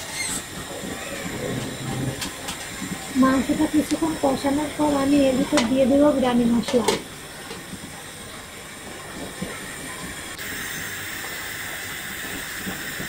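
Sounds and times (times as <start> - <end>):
oil sizzling: 0.0 - 13.0
pans hissing on stove: 0.0 - 13.0.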